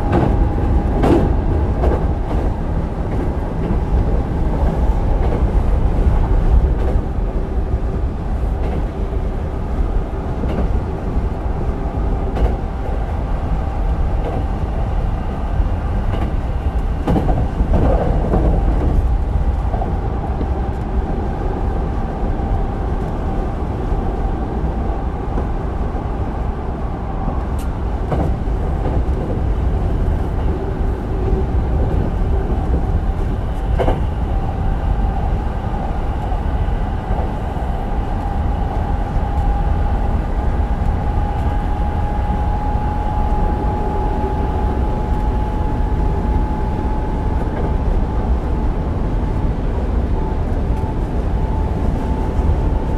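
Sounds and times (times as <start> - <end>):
train wheels rumbling: 0.0 - 52.9.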